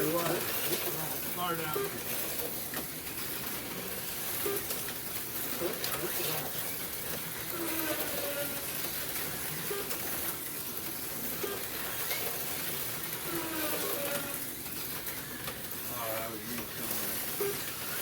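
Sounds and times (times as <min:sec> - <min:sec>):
slot cars whirring: 0:00.0 - 0:18.0.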